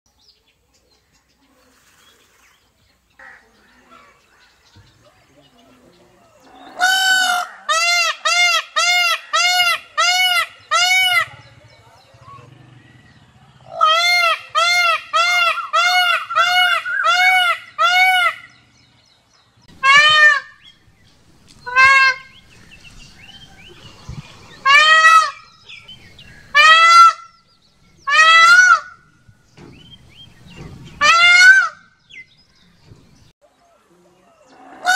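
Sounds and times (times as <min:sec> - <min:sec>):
peacock calling: 0:00.8 - 0:33.3, 0:34.2 - 0:34.9.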